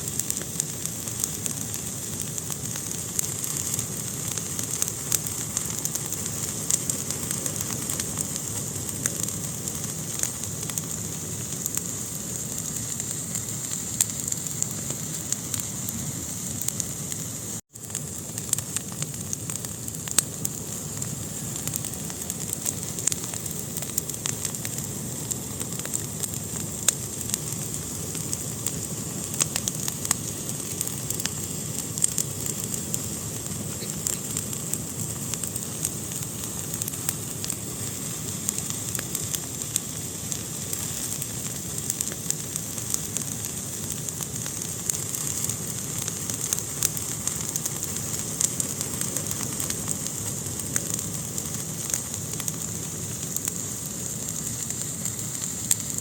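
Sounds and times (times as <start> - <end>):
fire crackling in a fireplace: 0.0 - 56.0.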